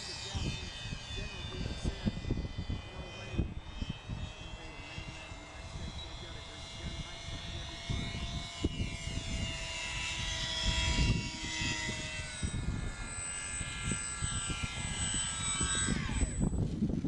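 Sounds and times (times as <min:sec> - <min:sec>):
model airplane motor whining: 0:00.0 - 0:17.0
wind buffeting microphone: 0:00.0 - 0:17.0.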